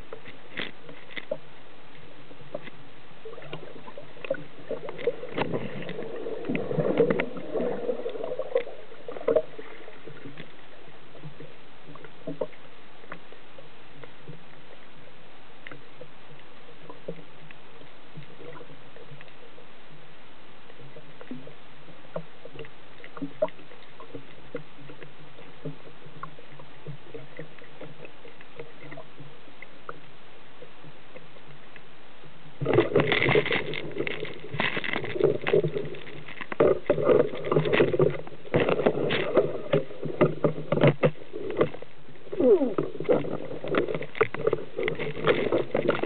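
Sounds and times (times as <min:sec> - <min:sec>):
clicks knocks and scrapes underwater: 0:00.0 - 0:15.0, 0:15.6 - 0:20.0, 0:20.6 - 0:31.9, 0:32.5 - 0:46.0
low underwater hiss: 0:00.0 - 0:46.0.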